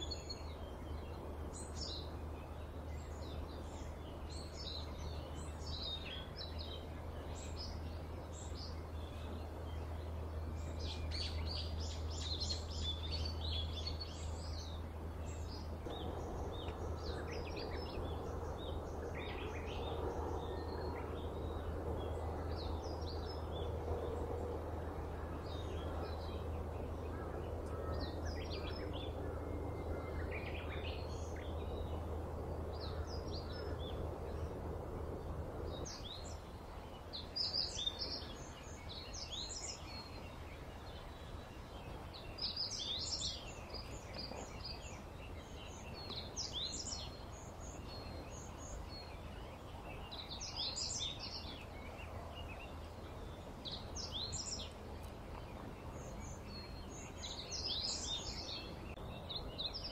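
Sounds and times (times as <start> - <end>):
low outdoor background rumble: 0.0 - 59.9
small birds chirping: 0.0 - 59.9.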